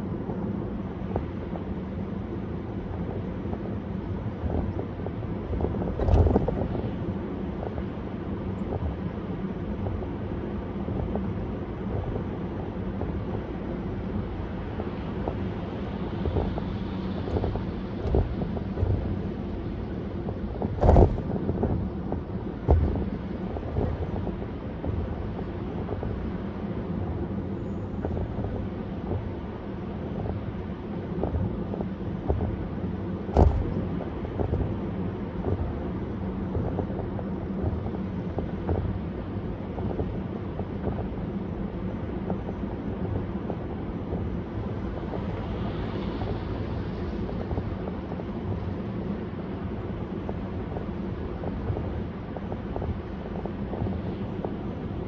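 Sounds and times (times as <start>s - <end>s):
road and engine drone: 0.0s - 55.0s.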